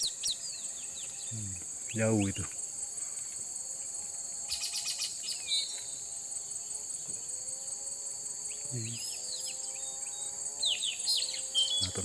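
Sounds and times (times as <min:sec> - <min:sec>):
bird chirps: 0:00.0 - 0:03.3, 0:04.4 - 0:07.3, 0:08.4 - 0:12.0
high-pitched insect drone: 0:00.0 - 0:12.0.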